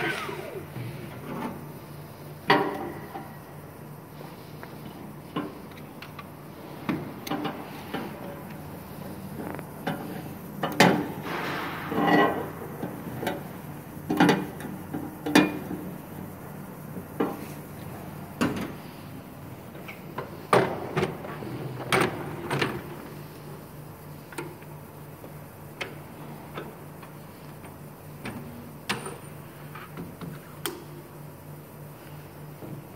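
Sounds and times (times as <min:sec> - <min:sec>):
low machine hum: 0:00.0 - 0:32.9.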